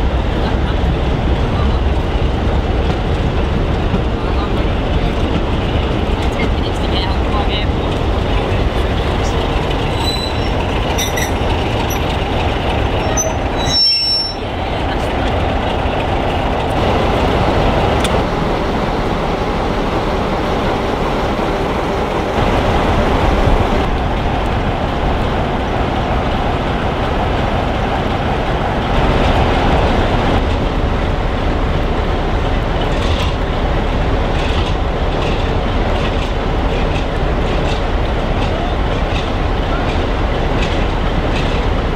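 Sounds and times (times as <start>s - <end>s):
diesel locomotives idling: 0.0s - 41.9s
passenger train wheel noise: 0.0s - 41.9s.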